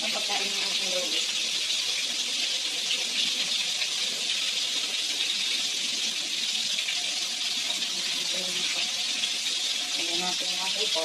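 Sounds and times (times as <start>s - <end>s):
soup boiling in a pot: 0.0s - 11.0s.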